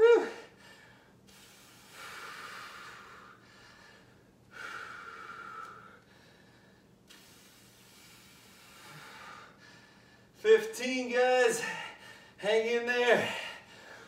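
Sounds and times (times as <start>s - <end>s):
man breathing hard: 0.2s - 10.4s, 11.6s - 12.4s, 13.2s - 14.0s.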